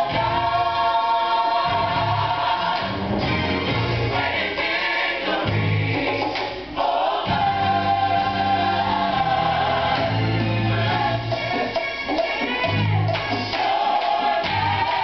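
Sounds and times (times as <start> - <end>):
choir singing worship song: 0.0 - 15.0.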